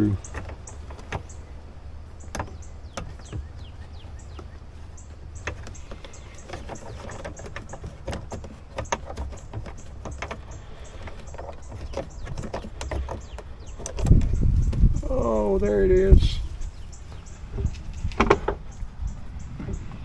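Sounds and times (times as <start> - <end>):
light clicks and knocks: 0.0 - 20.0.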